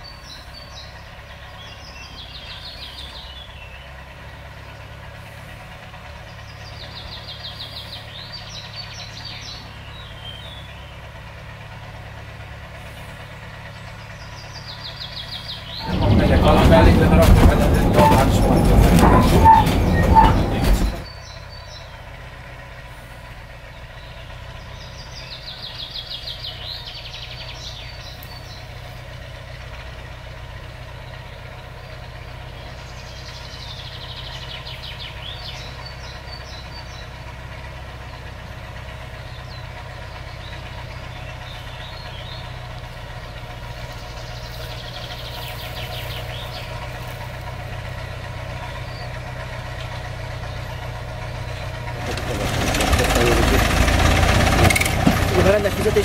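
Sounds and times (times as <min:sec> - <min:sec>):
birds singing: 0:00.0 - 0:56.0
diesel locomotive engine drone: 0:00.0 - 0:56.0.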